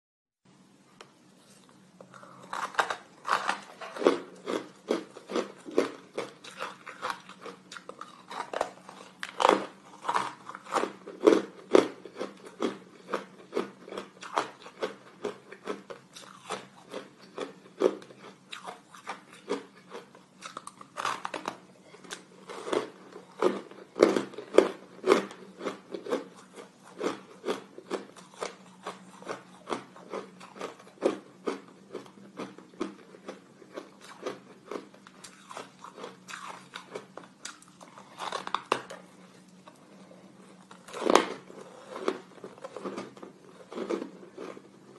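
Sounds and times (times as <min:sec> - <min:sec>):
ice being chewed: 0:01.6 - 0:44.9.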